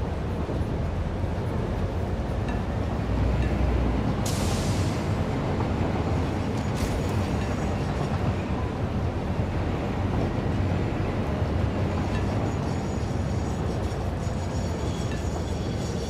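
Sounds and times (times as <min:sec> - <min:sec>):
moving vehicle rumbling: 0:00.0 - 0:16.0.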